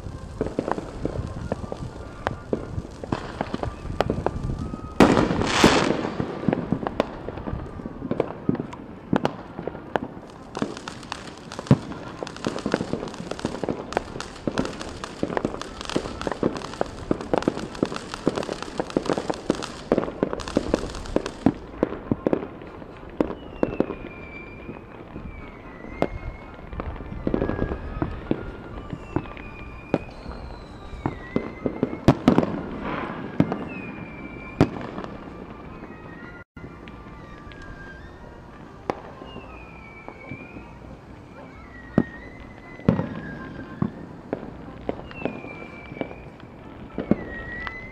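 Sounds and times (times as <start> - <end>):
fireworks popping and banging: 0.0 - 47.9.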